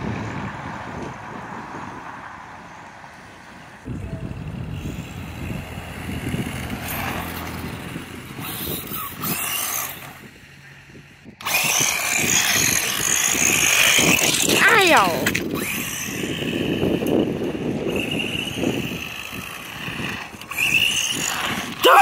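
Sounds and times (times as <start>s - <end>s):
toy truck motor whining: 4.3s - 22.0s.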